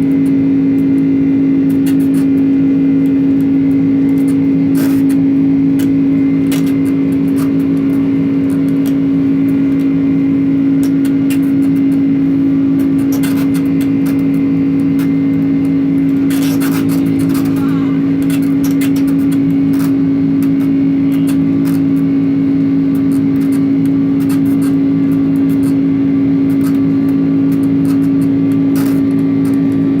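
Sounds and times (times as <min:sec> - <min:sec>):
jet engines droning: 0:00.0 - 0:30.0.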